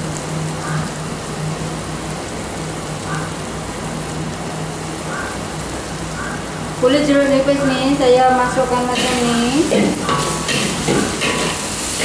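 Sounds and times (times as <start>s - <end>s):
mussels sizzling in a wok: 1.7s - 12.0s.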